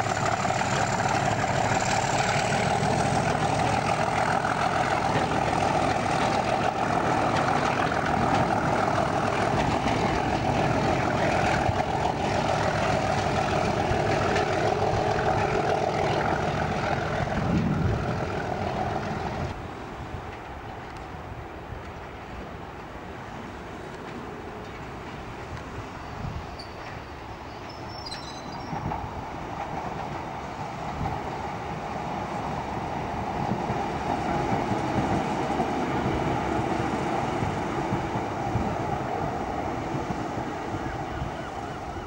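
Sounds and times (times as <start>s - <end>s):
diesel locomotive engine working hard: 0.0s - 20.9s, 21.5s - 42.0s.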